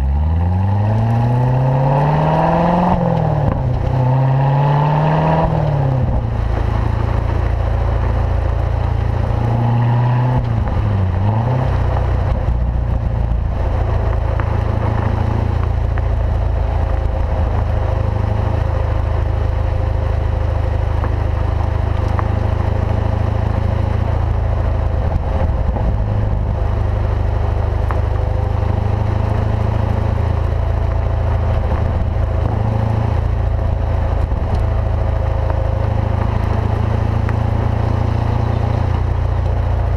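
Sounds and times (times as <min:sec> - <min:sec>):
car engine revving while driving: 0:00.0 - 0:39.9.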